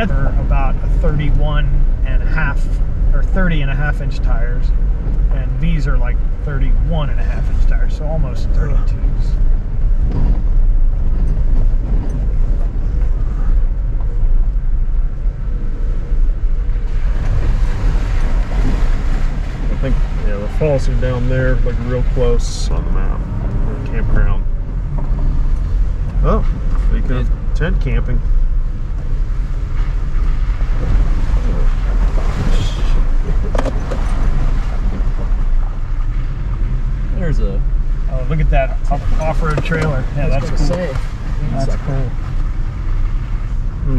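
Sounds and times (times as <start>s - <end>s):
engine and road rumble: 0.0s - 43.9s.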